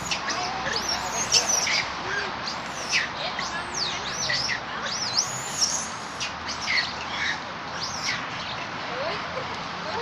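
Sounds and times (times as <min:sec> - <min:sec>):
birds chirping: 0:00.0 - 0:08.9.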